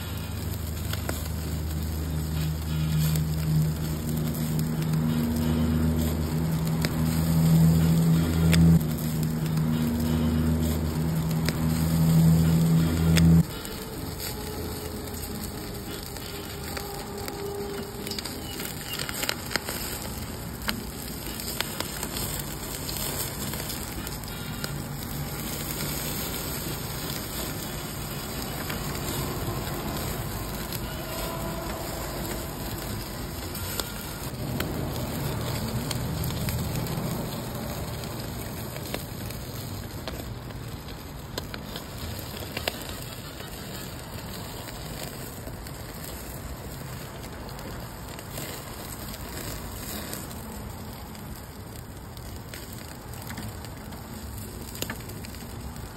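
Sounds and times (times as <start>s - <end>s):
fish sizzling on grill: 0.0s - 55.9s.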